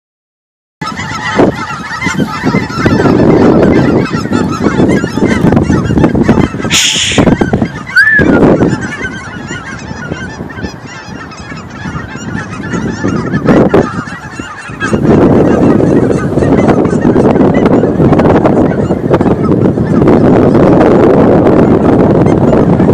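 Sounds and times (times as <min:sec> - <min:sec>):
geese honking: 0:00.8 - 0:22.9.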